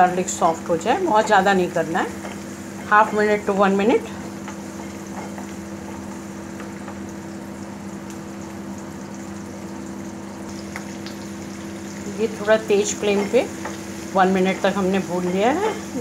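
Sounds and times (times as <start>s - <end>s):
garlic sizzling in hot oil: 0.0s - 16.0s
steady low hum: 0.0s - 16.0s.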